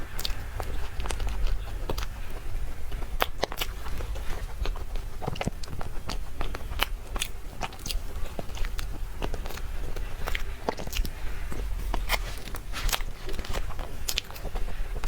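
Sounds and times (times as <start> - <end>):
biting and chewing: 0.0 - 15.0
steady low hum: 0.0 - 15.0.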